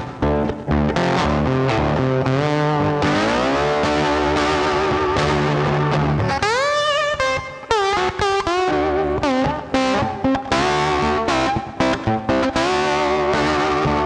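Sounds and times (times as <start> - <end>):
distorted electric guitar lead: 0.0 - 14.0.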